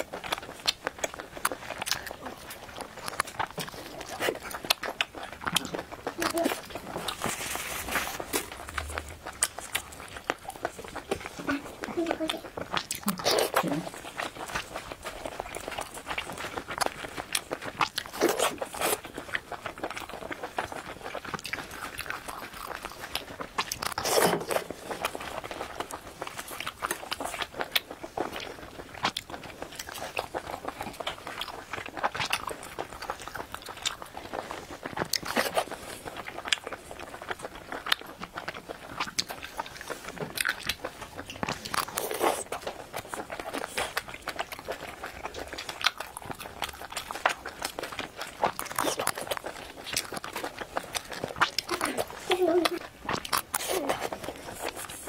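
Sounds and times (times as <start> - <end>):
chewing and biting seafood: 0.0 - 55.0.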